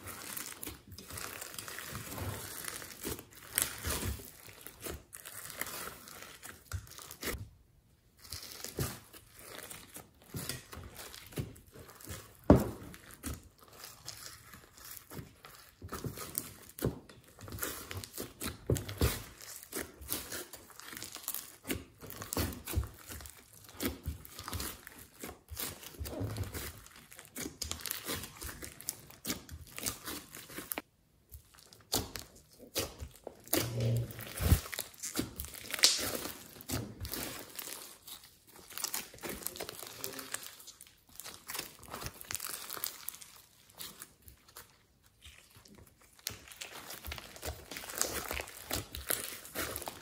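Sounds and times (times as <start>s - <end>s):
slime squishing: 0.0s - 50.0s.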